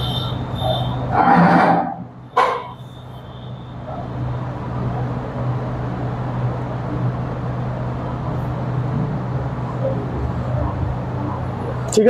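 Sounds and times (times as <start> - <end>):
engine hum and rumble: 0.0 - 12.0.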